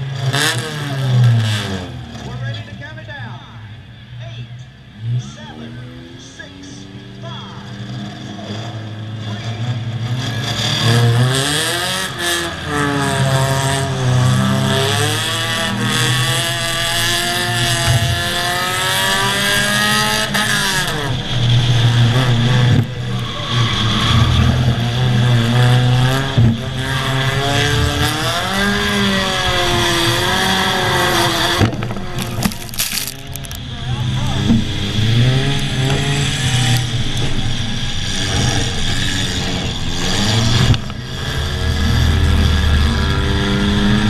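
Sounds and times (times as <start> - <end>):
race car engines revving: 0.0 - 44.0
wind and road noise: 0.0 - 44.0.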